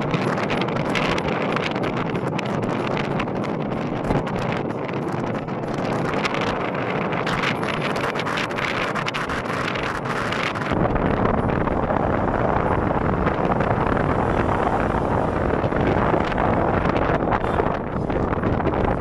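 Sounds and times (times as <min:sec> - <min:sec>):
tyre and road noise: 0:00.0 - 0:19.0
wind buffeting microphone: 0:00.0 - 0:19.0
wind rushing past car: 0:00.0 - 0:19.0.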